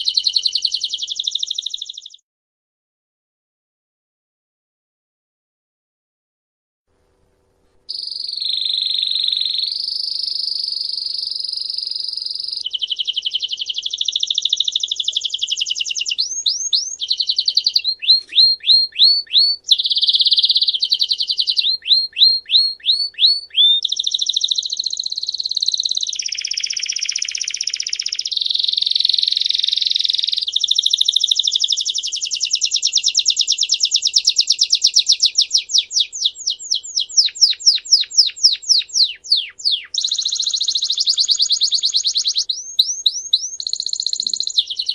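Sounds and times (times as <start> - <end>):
songbird singing trills: 0.0 - 2.2, 7.9 - 44.9.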